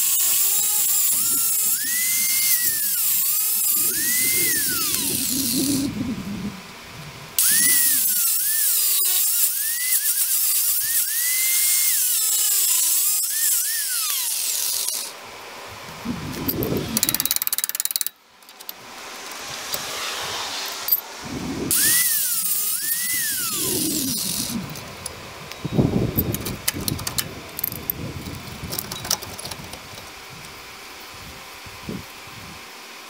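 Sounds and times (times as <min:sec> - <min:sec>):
reciprocating saw cutting bolts: 0:00.0 - 0:06.0, 0:07.4 - 0:15.2, 0:16.2 - 0:30.2.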